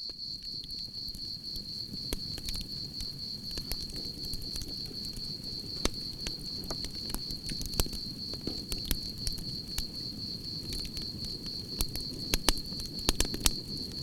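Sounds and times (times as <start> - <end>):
campfire crackling and popping: 0.0 - 14.0
crickets trilling: 0.0 - 14.0.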